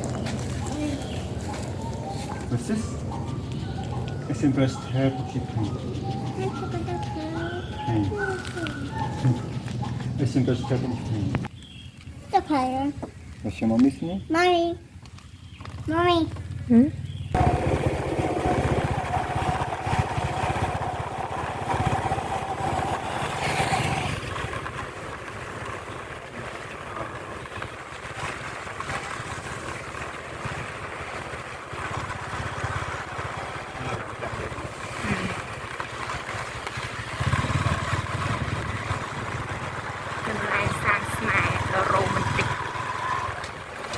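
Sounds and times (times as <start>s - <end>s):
motorbike engine rumble: 0.0s - 43.9s.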